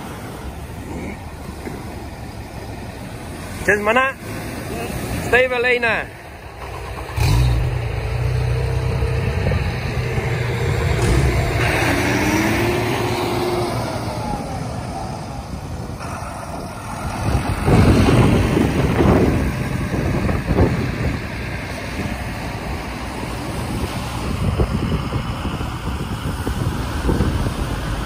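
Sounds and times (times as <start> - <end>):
outboard motors revving: 0.0 - 28.0
surf and churning water: 0.0 - 28.0.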